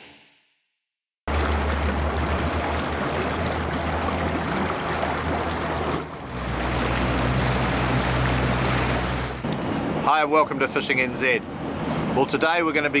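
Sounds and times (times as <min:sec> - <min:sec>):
boat engine hum: 0:01.3 - 0:12.5
water rushing along hull: 0:01.3 - 0:13.0
wind: 0:01.3 - 0:13.0.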